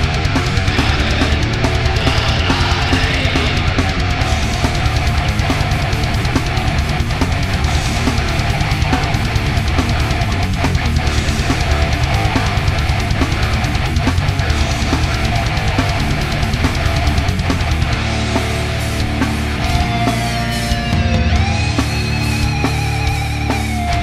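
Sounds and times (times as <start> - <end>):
death metal music: 0.0 - 24.0.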